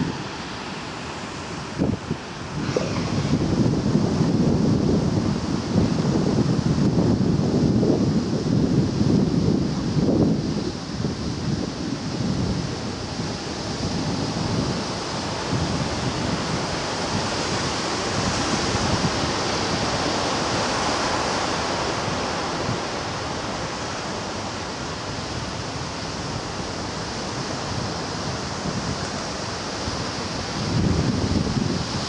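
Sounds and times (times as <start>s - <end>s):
sea waves washing in: 0.0s - 32.0s
wind buffeting microphone: 0.0s - 32.0s.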